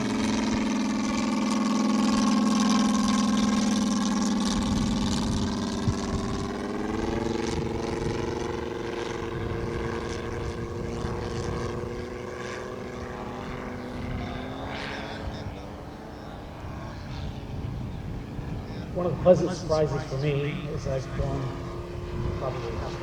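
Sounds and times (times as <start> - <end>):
model plane radial engine running: 0.0 - 23.0.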